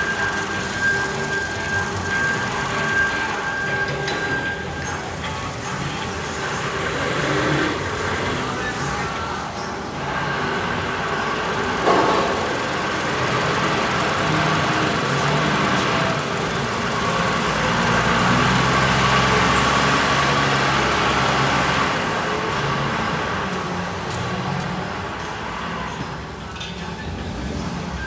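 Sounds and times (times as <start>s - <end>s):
car engine running: 0.0s - 23.6s.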